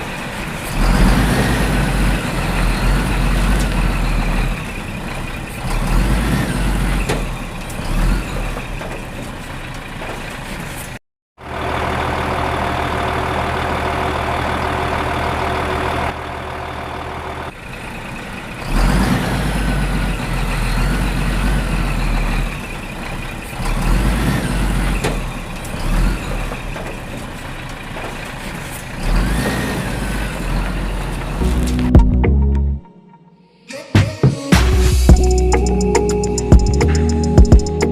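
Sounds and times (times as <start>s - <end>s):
heavy vehicle engine running: 0.0s - 32.4s.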